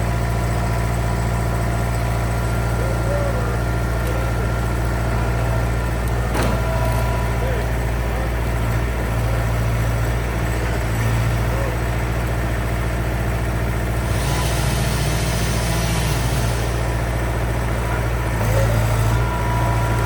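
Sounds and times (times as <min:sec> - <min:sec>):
skid steer engine humming: 0:00.0 - 0:20.0.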